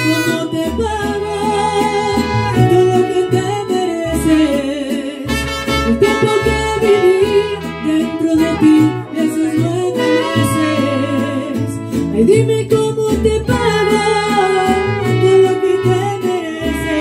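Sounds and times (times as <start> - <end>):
plucked bass line: 0.0 - 17.0
strummed guitars: 0.0 - 17.0
violin melody: 1.2 - 11.8, 13.5 - 17.0.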